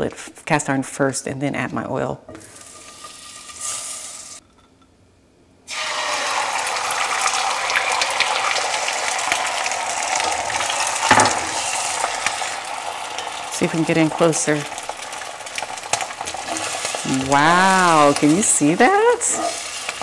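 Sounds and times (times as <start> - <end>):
eggs sizzling in a skillet: 2.3 - 4.6, 5.7 - 20.0.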